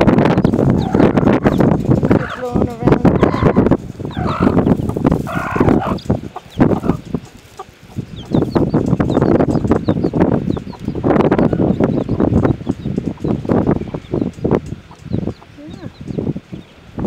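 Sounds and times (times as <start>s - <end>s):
chicks peeping: 0.0s - 17.0s
hen clucking and growling: 0.5s - 16.1s.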